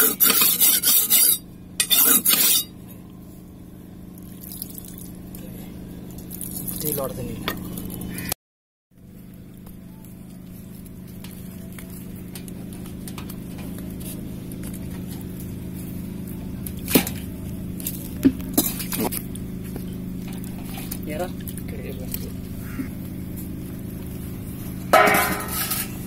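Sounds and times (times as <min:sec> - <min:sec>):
steady low hum: 0:00.0 - 0:08.4, 0:09.0 - 0:26.0.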